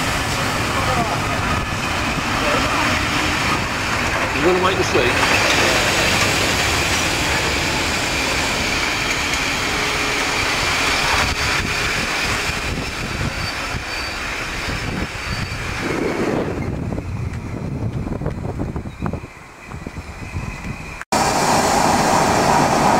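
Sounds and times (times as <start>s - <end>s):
rushing air: 0.0s - 22.9s
train wheels rumbling on rails: 0.0s - 22.9s
train wheels clicking: 0.2s - 18.6s.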